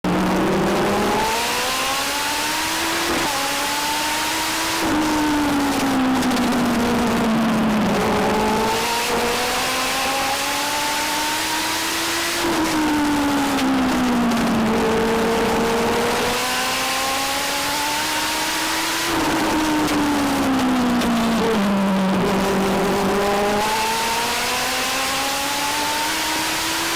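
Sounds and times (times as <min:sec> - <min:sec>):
race car engine revving: 0:00.1 - 0:26.9.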